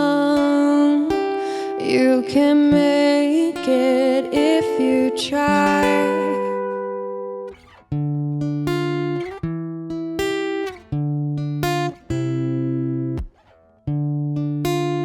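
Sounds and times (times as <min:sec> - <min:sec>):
acoustic guitar strummed chords: 0:00.0 - 0:15.0.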